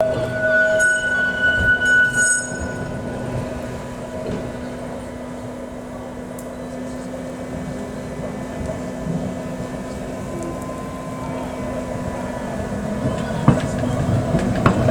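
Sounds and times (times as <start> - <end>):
high ringing tones: 0.0 - 7.1, 8.5 - 14.5
electric tram humming on rails: 0.0 - 14.9.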